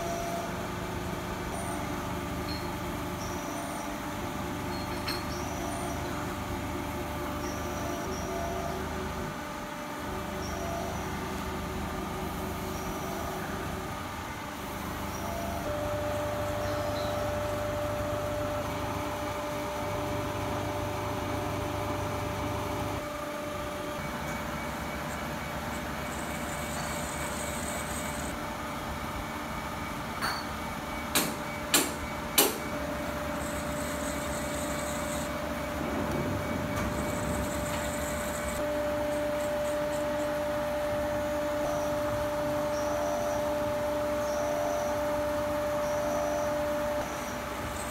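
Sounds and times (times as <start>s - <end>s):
milling machine humming and whining: 0.0s - 47.9s.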